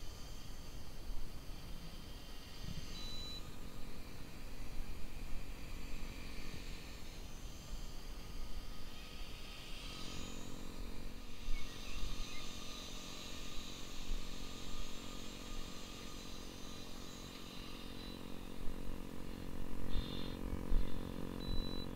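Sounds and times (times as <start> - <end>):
rc helicopter rotors whirring: 0.0 - 21.9.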